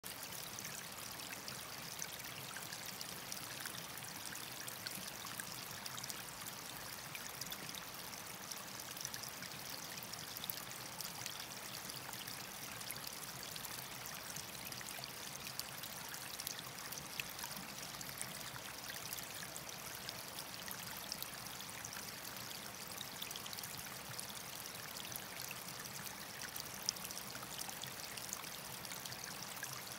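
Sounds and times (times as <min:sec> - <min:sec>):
water trickling and splashing: 0:00.0 - 0:29.9.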